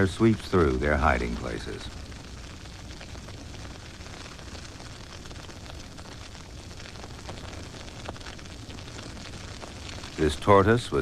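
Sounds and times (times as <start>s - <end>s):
grass fire crackling: 0.0s - 11.0s.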